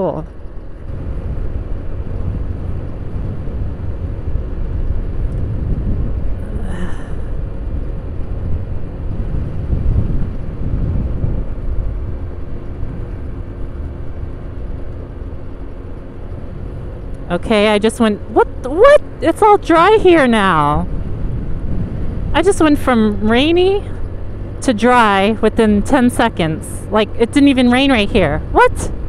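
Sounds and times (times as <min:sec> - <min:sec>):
faint scooter engine: 0:00.0 - 0:29.0
wind rumble on microphone: 0:00.0 - 0:29.0.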